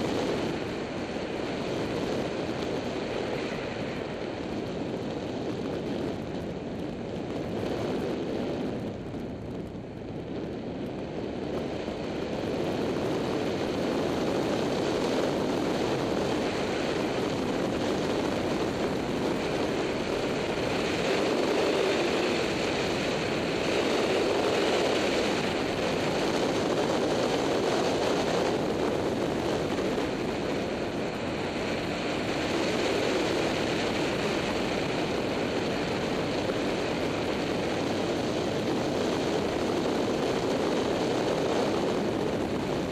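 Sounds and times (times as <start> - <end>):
motorbike engine and road roar: 0.0 - 42.9
wind rushing over microphone: 0.0 - 42.9.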